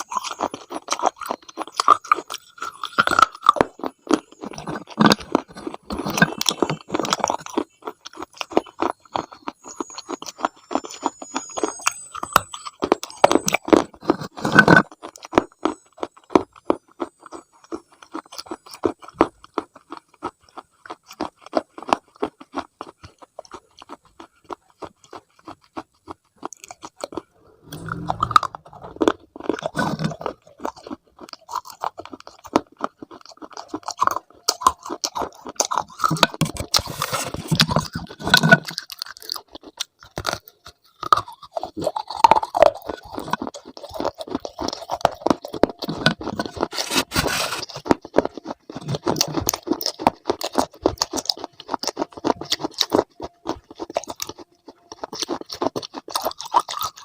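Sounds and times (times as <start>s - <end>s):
crunchy food being chewed: 0.0s - 57.0s.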